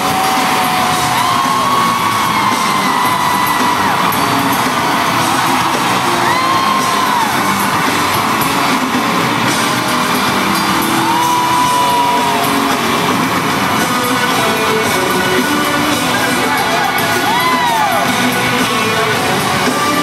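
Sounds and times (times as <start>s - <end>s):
crowd whooping and yelling: 0.0s - 20.0s
loud live music: 0.0s - 20.0s.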